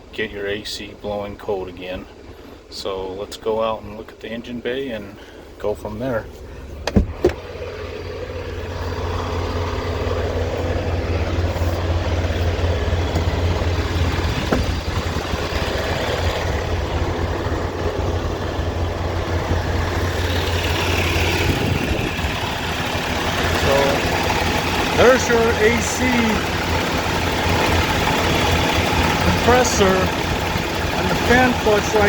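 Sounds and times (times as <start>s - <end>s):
diesel truck engine idling: 0.0s - 32.0s.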